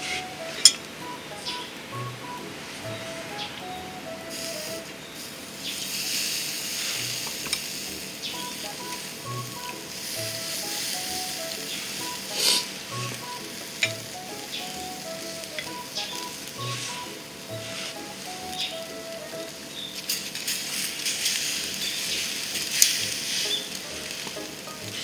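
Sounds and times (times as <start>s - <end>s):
background music: 0.0s - 5.2s, 6.5s - 25.0s
meat sizzling on a grill: 4.3s - 25.0s.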